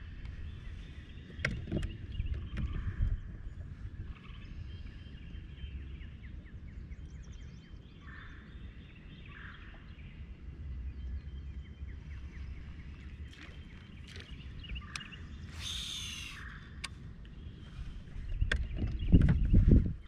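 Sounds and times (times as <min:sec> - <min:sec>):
birds chirping: 0:00.0 - 0:20.0
wind rumbling on microphone: 0:00.0 - 0:20.0.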